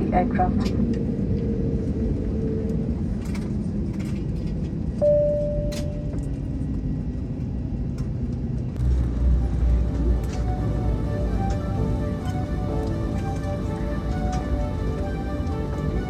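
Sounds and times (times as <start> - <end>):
aircraft cabin rumble: 0.0 - 16.0.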